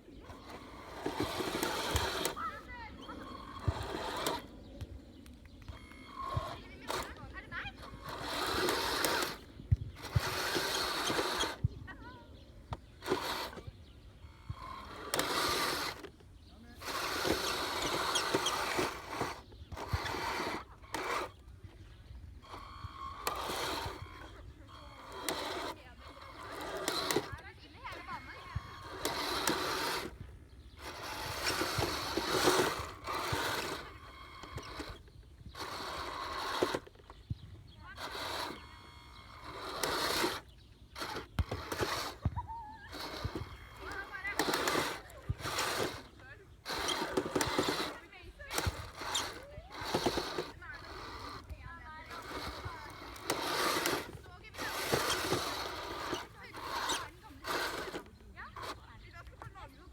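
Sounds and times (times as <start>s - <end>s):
snow groomer rushing and grinding: 0.0s - 59.9s
hissing machine noise: 0.1s - 4.6s, 5.2s - 13.6s, 14.3s - 16.1s, 22.4s - 58.9s.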